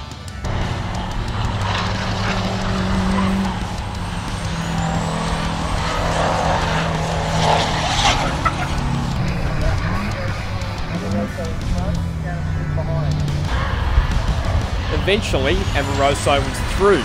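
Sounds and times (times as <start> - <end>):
race truck engines running hard: 0.0 - 17.0.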